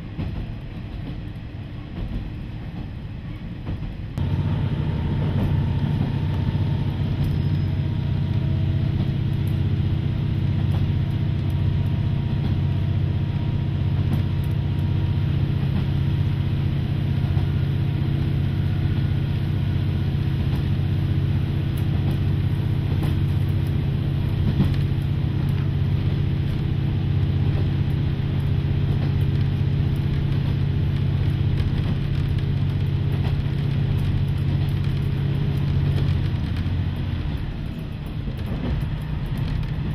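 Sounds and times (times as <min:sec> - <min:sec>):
railcar engine drone: 0:00.0 - 0:39.9.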